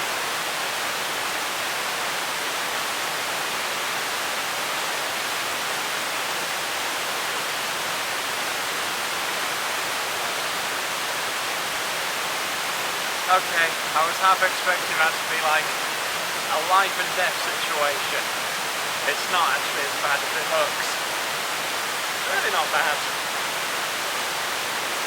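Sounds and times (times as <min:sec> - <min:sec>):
waterfall and river rushing: 0:00.0 - 0:25.0.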